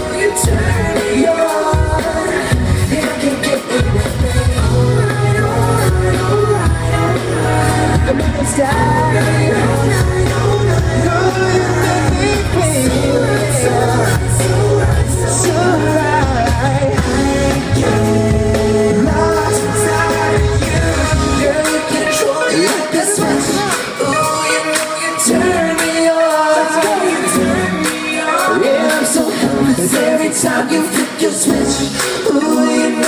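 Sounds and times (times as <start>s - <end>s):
bass line: 0.0s - 30.6s
live band playing pop song: 0.0s - 33.0s
person singing: 0.0s - 33.0s.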